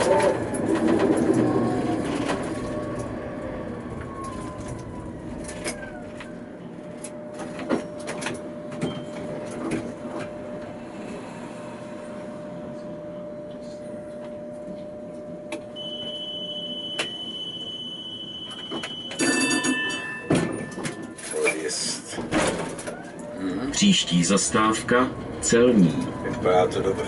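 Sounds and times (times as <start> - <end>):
tram electric whine: 0.0 - 27.0.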